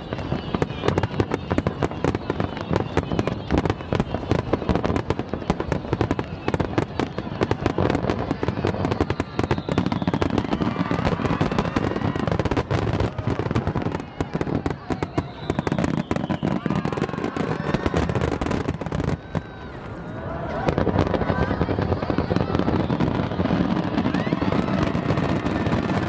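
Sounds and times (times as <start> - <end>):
falling firework whistles: 0.0 - 19.8, 20.5 - 26.0
fireworks bangs and crackles: 0.0 - 26.0.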